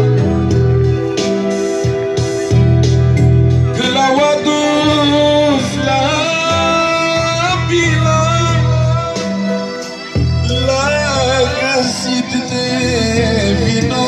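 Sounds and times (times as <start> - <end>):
christian song with strong bass: 0.0 - 14.0
person singing melody: 0.0 - 14.0.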